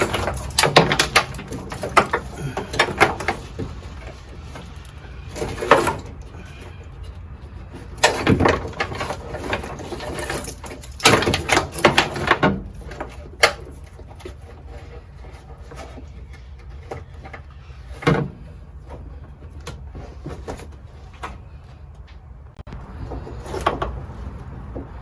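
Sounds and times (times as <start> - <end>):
tools and parts knocking: 0.0 - 22.1, 22.7 - 25.0.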